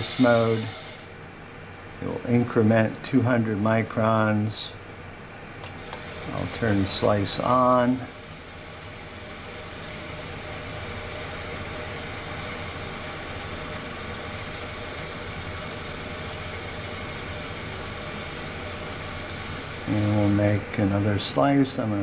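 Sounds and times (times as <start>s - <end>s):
microtome blade vibrating hum: 0.0s - 22.0s
thin high whine: 0.0s - 22.0s.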